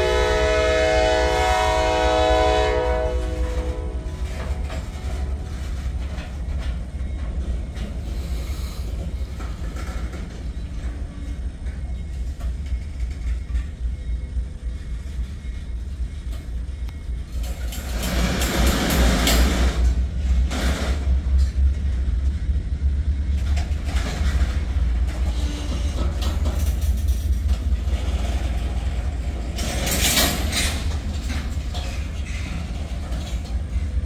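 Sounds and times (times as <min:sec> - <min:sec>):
freight train rolling past: 0:00.0 - 0:34.0
wheel and rail noise: 0:00.0 - 0:34.0.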